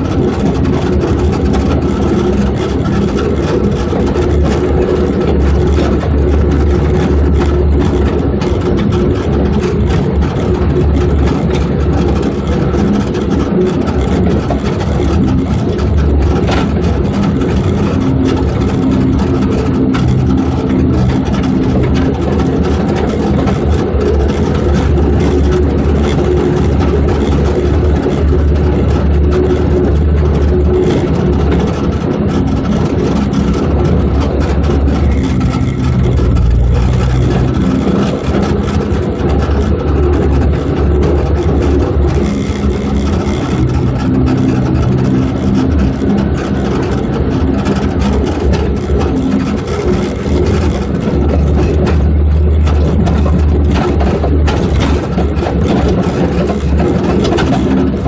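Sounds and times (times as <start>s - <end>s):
car engine running: 0.0s - 58.0s
wind noise: 0.0s - 58.0s.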